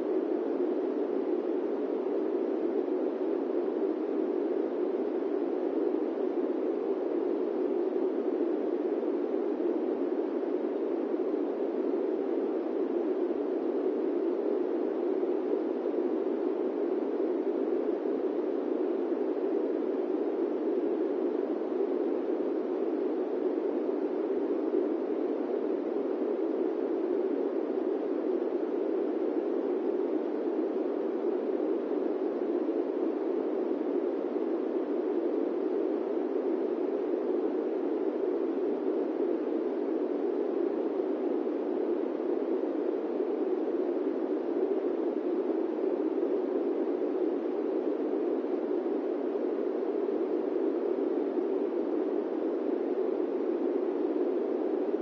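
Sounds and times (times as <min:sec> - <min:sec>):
airplane cabin white noise: 0:00.0 - 0:55.0.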